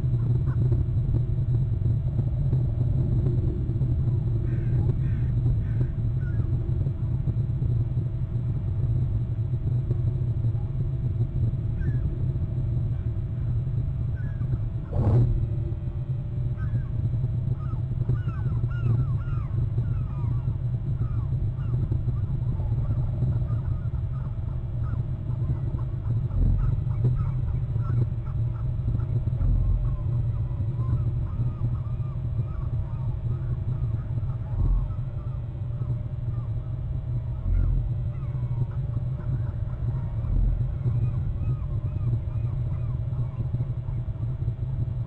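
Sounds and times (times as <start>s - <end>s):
wind rumble: 0.0s - 45.0s.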